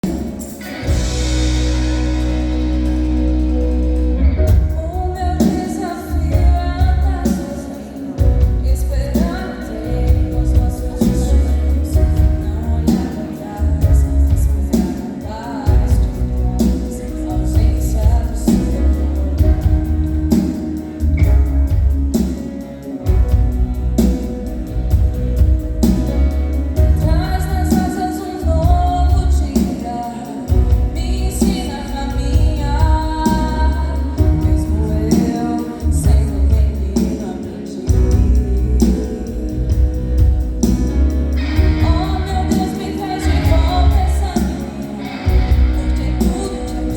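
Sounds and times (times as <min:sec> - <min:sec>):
bass line: 0:00.0 - 0:07.3, 0:08.2 - 0:14.8, 0:15.7 - 0:22.3, 0:23.0 - 0:29.6, 0:30.5 - 0:37.1, 0:37.9 - 0:46.9
drums and percussion: 0:00.0 - 0:46.9
woman singing lead: 0:00.0 - 0:46.9.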